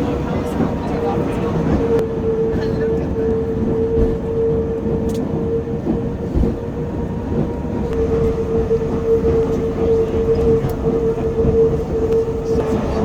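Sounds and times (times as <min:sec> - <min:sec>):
constant high whine: 0:00.0 - 0:13.0
railcar rumble and rattle: 0:00.0 - 0:13.0.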